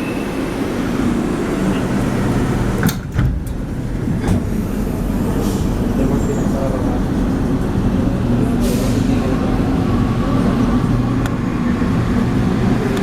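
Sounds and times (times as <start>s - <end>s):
train rumbling through station: 0.0s - 13.0s.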